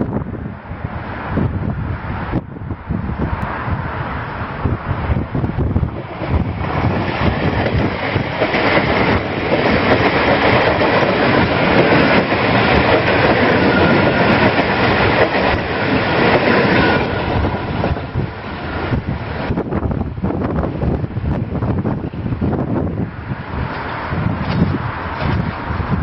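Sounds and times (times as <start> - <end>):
train wheels rushing on track: 0.0 - 26.0.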